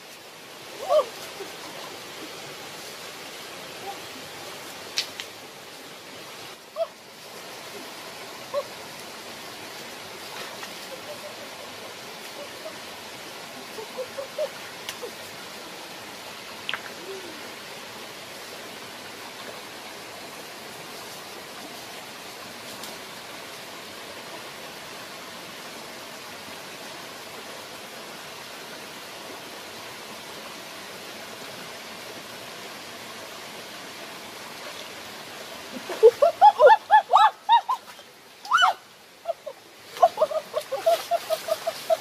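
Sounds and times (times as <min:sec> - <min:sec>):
running water over rocks: 0:00.0 - 0:42.0.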